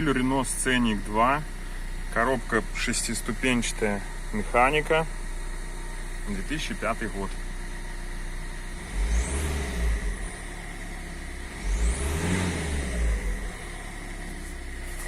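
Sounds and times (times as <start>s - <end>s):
diesel car engine idling and revving: 0.0s - 15.0s.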